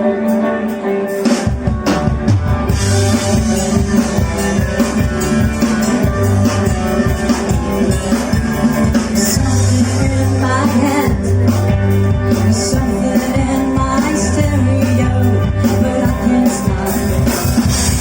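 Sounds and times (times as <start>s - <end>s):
bass guitar: 0.0s - 18.0s
drums: 0.0s - 18.0s.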